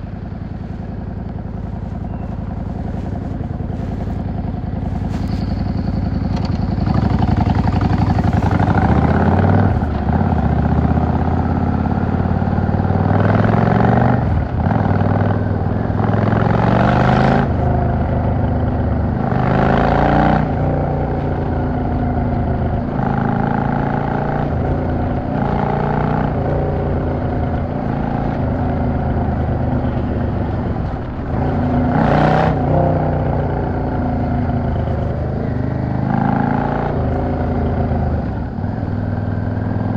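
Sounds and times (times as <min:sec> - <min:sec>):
motorcycle engine pulling through gears: 0:00.5 - 0:39.9.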